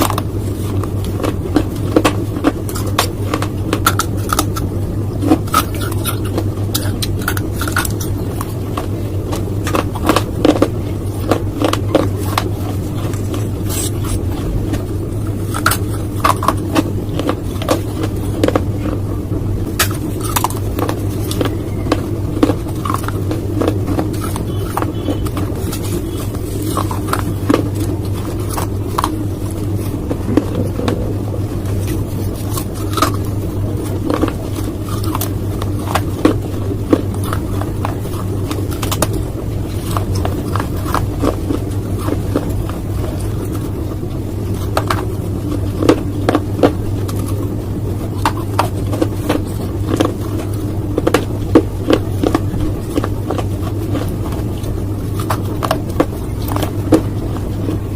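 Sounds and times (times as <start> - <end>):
crunching and chewing clay: 0.0 - 57.9
steady low hum: 0.0 - 57.9.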